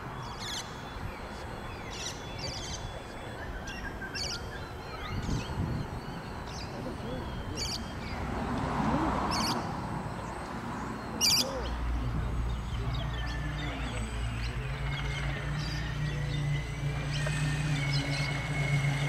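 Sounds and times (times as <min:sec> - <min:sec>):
model boat motor drone: 0:00.0 - 0:19.0
small birds chirping: 0:00.0 - 0:19.0.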